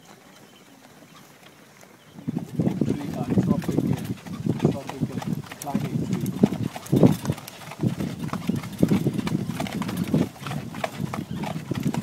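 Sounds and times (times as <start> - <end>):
horse hooves clip-clopping on dirt: 0.0 - 12.0.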